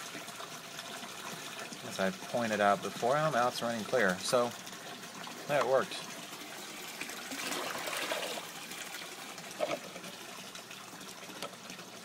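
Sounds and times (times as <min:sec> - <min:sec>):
water pouring into a bucket: 0:00.0 - 0:12.0
water trickling: 0:00.0 - 0:12.0.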